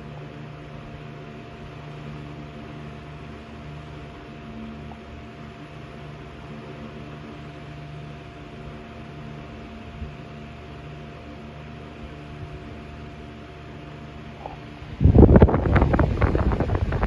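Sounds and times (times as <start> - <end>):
table fan running: 0.0 - 17.0.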